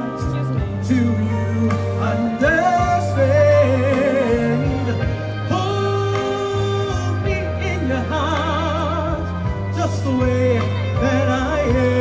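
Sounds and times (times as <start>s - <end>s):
backing music with bass: 0.0s - 12.0s
man singing ballad: 0.0s - 12.0s.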